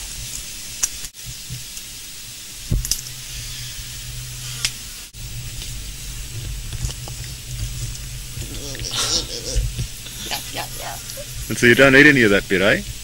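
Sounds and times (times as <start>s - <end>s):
steady hiss and low hum: 0.0s - 13.0s.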